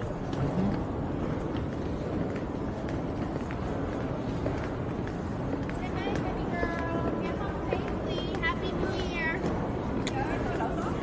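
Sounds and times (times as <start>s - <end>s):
airport terminal hubbub: 0.0s - 11.0s.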